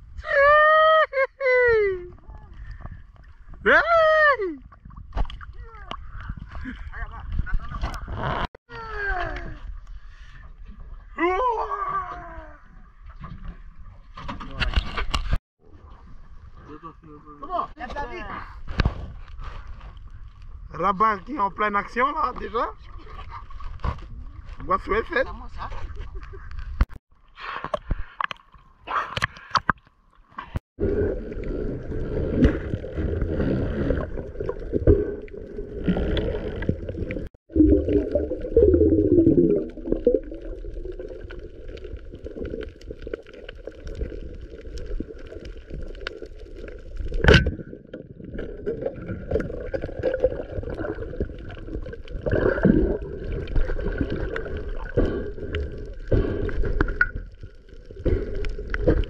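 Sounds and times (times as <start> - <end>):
water gurgling and sloshing: 4.6 - 59.0.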